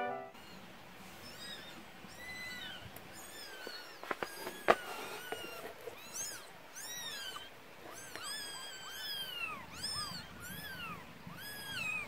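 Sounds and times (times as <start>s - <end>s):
kittens mewing: 0.4s - 12.0s.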